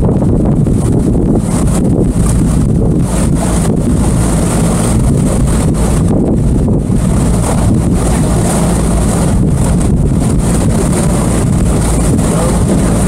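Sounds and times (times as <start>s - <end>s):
boat engine low drone: 0.0s - 13.0s
wind buffeting microphone: 0.0s - 13.0s.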